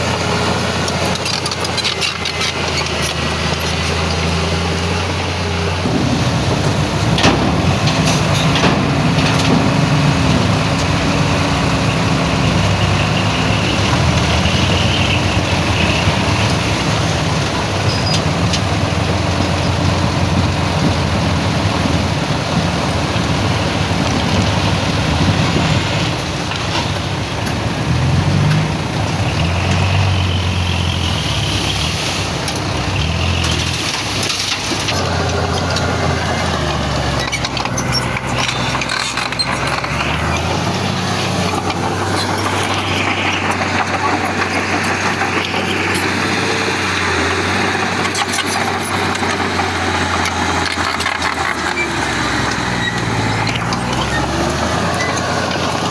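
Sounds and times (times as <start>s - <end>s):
heavy diesel machinery engine: 0.0s - 55.9s.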